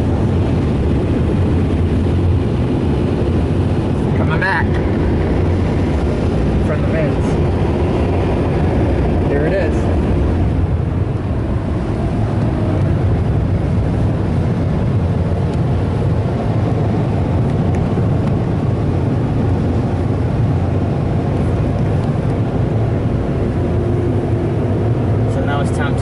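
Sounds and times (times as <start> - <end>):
car wash dryer blowers: 0.0 - 26.0.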